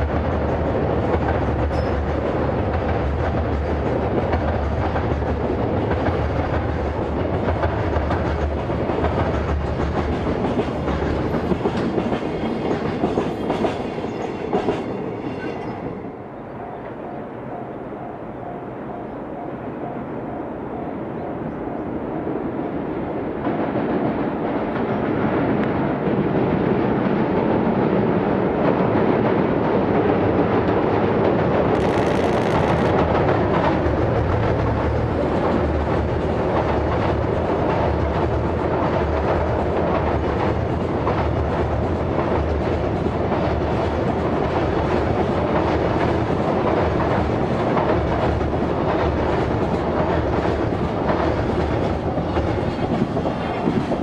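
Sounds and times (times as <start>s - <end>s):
wheels clickety-clack over rail joints: 0.0s - 16.0s, 23.3s - 54.0s
freight train rumbling on bridge: 0.0s - 54.0s.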